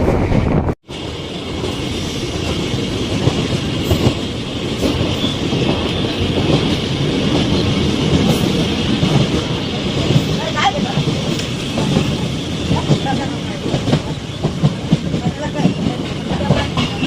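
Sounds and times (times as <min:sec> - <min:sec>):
rail clicks: 0:00.0 - 0:17.0
train wheels rumbling on rails: 0:00.0 - 0:17.0.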